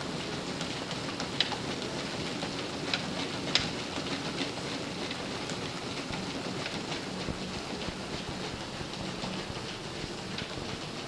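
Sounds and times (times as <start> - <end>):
feet striking treadmill belt: 0.0 - 11.0
treadmill slats clattering: 0.0 - 11.0.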